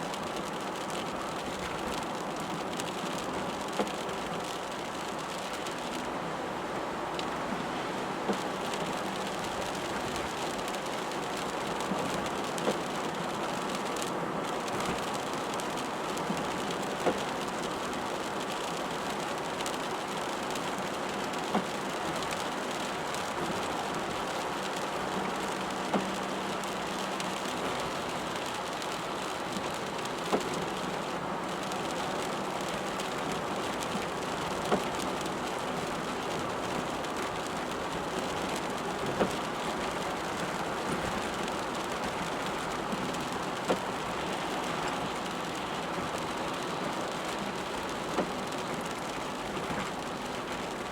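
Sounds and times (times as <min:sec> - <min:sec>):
rain on a moving car: 0:00.0 - 0:50.9
tyres hissing on wet road: 0:00.1 - 0:50.9.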